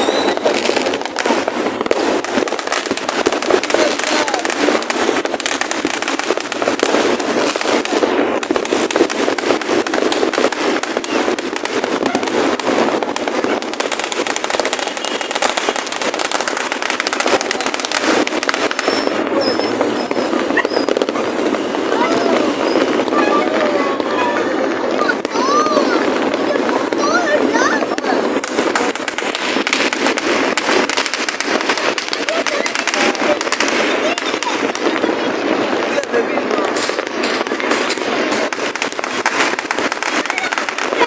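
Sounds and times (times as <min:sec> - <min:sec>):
fireworks popping and crackling: 0:00.0 - 0:41.0.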